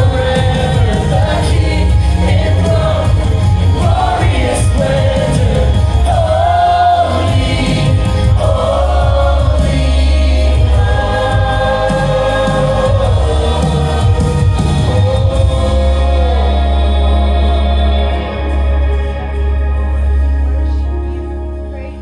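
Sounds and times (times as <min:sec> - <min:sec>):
choir singing long notes: 0:00.0 - 0:20.9
live band with bass: 0:00.0 - 0:22.0.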